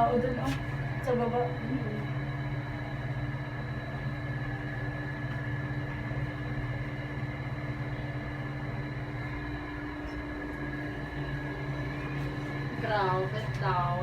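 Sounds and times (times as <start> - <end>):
air conditioner humming and whining: 0.0 - 14.0.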